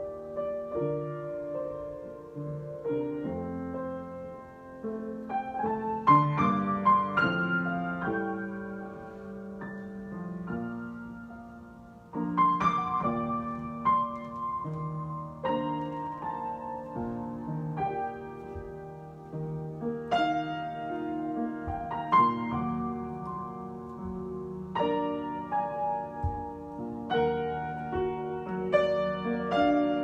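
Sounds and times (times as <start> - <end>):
solo piano: 0.0 - 30.0.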